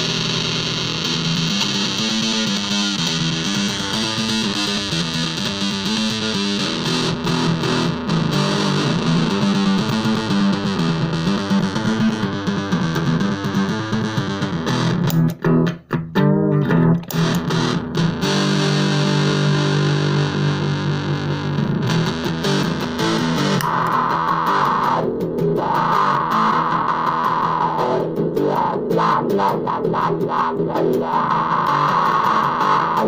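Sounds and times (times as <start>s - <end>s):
fuzz electric guitar: 0.0s - 33.0s.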